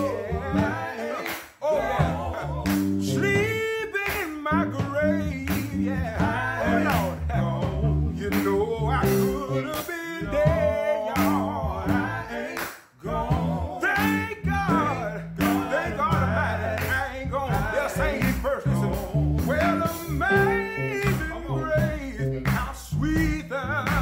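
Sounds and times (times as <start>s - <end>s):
low bass line: 0.0s - 1.0s, 1.8s - 3.7s, 4.5s - 12.4s, 13.0s - 24.0s
drum kit beat: 0.0s - 24.0s
men singing in harmony: 0.0s - 24.0s.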